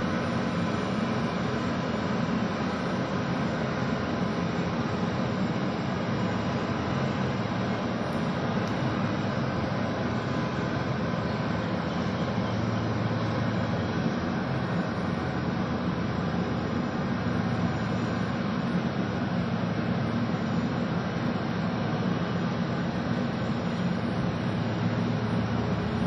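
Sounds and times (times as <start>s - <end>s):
jet aircraft rumble and hiss: 0.0s - 26.0s.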